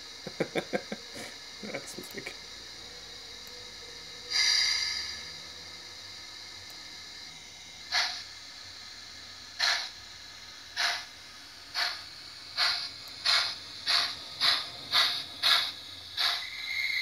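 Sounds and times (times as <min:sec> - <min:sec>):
model steam locomotive chuffs: 0:00.0 - 0:17.0
steady steam hiss: 0:00.0 - 0:17.0.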